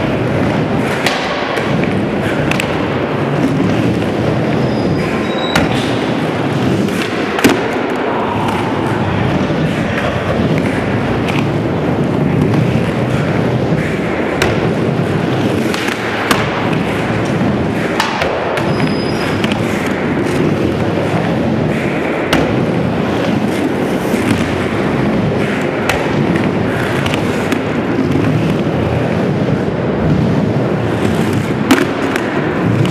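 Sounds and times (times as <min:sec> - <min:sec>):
skateboard clacks and thuds: 0:00.0 - 0:32.9
skateboard wheels rolling on concrete: 0:00.0 - 0:32.9.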